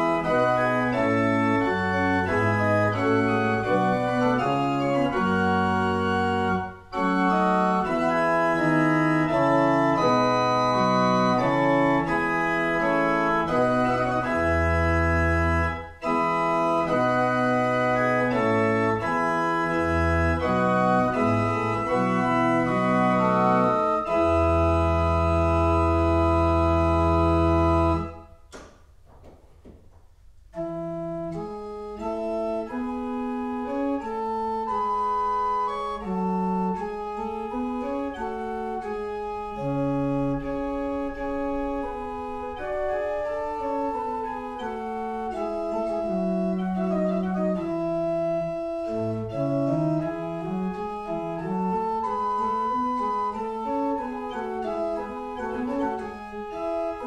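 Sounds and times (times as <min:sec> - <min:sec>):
pipe organ chords: 0:00.0 - 0:28.8, 0:30.5 - 0:57.0.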